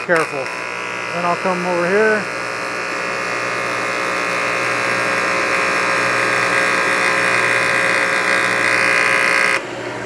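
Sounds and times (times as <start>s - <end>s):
spot cleaning gun buzzing: 0.0s - 9.7s.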